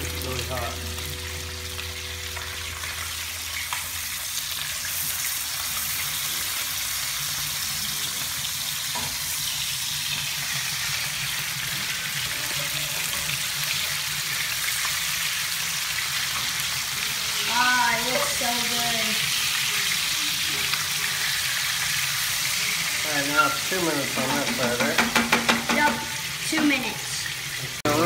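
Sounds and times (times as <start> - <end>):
fish sizzling in oil: 0.0 - 28.0.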